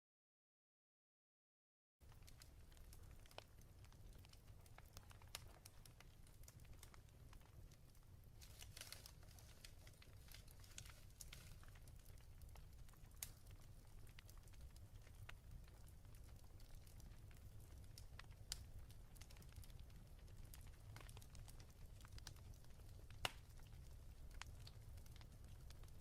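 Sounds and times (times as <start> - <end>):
wood fire crackling: 2.0 - 26.0.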